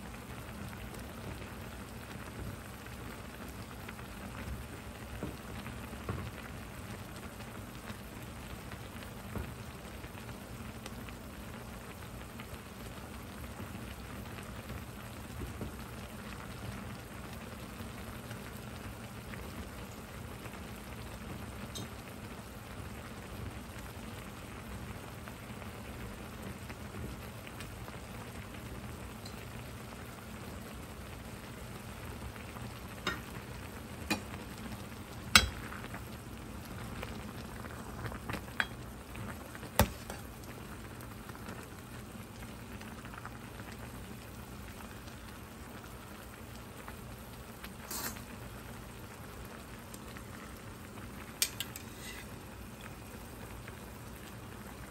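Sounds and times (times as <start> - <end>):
soup bubbling in a pot: 0.0 - 54.9.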